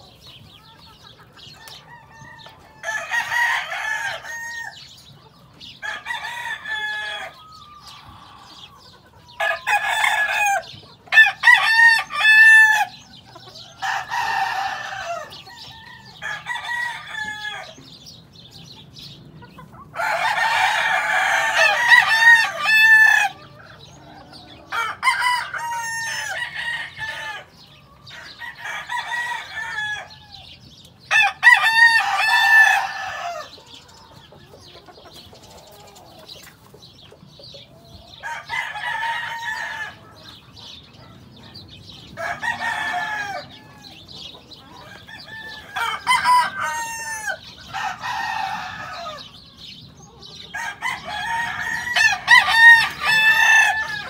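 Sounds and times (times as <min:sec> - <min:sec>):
roosters crowing: 0:00.0 - 0:54.0.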